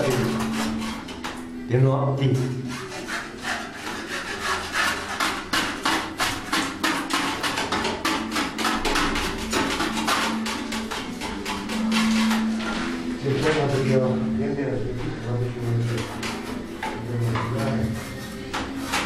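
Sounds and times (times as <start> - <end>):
hand scrapers scraping a wall: 0.0 - 14.2, 15.2 - 19.0.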